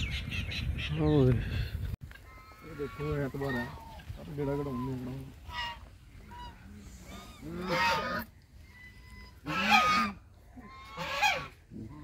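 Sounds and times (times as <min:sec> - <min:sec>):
waterfowl calling: 0:02.1 - 0:12.0.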